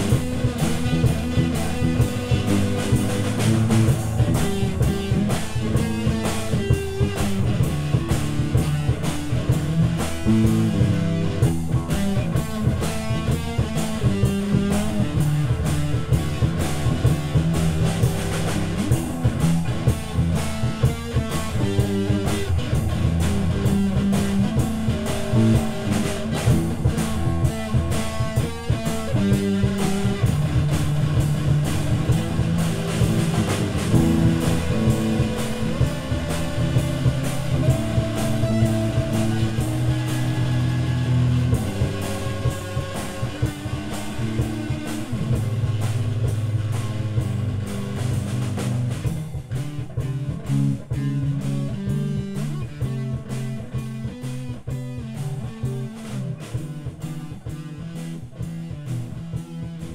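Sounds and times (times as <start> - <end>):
drum kit beat: 0.0 - 59.9
psychedelic rock guitars: 0.0 - 59.9.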